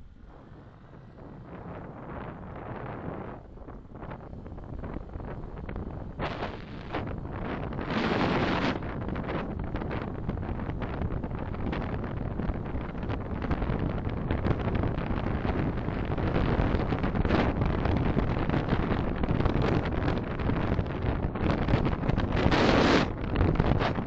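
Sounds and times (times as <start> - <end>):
car driving road noise: 0.0 - 24.0.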